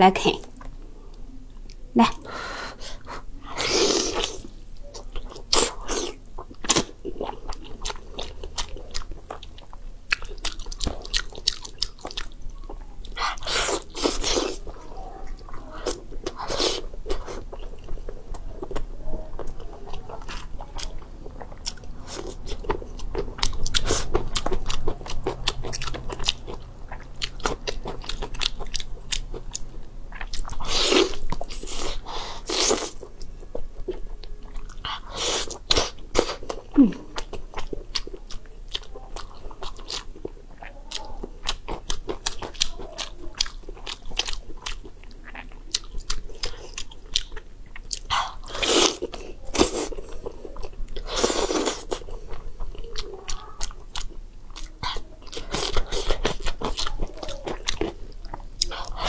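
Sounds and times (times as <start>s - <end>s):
close chewing and biting: 3.5s - 59.0s.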